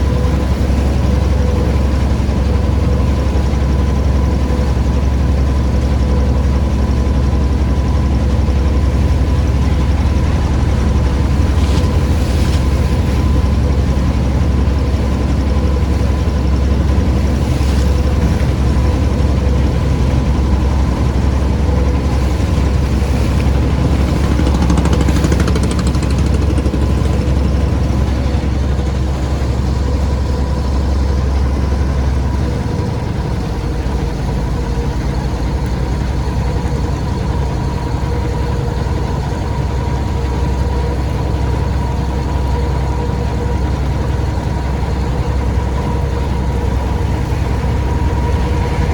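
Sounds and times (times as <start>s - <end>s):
heavy low rumble: 0.0s - 41.2s, 42.9s - 48.9s
motor running steadily: 0.0s - 48.9s.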